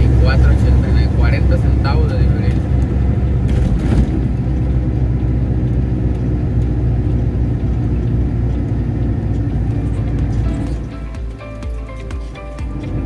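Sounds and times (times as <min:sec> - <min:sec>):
truck engine rumble from cab: 0:00.0 - 0:13.0.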